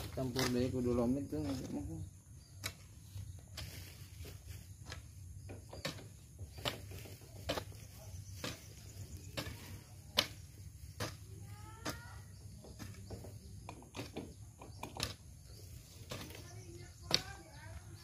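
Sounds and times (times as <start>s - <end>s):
garden tool knocking and scraping soil: 0.0s - 18.0s.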